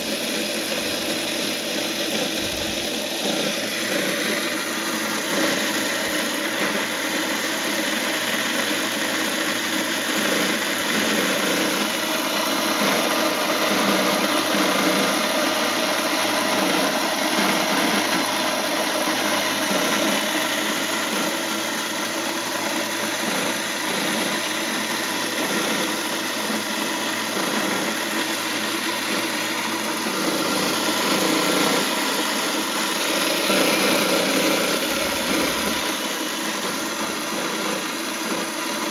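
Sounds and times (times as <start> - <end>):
electric grain mill grinding: 0.0 - 38.9.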